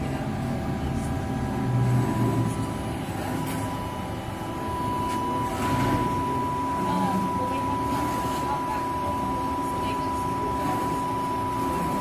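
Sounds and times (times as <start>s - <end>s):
low machinery hum: 0.0s - 12.0s
thin high whine: 0.0s - 12.0s.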